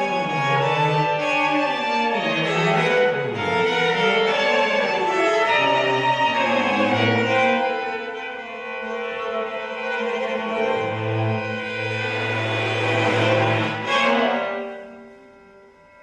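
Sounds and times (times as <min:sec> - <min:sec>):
string quartet playing: 0:00.0 - 0:16.0.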